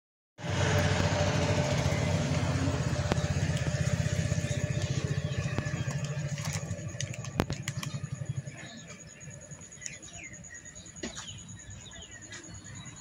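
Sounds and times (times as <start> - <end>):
vehicle engine running: 0.4 - 13.0.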